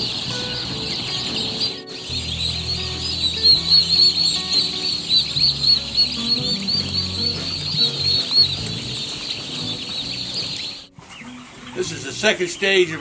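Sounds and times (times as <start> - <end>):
turkey poults peeping: 0.0 - 13.0.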